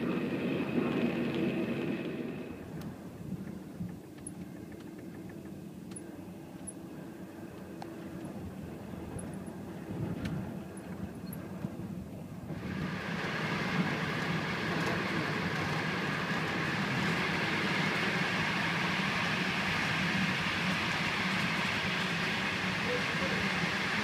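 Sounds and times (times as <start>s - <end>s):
train carriage rumble and rushing hiss: 0.0s - 24.0s.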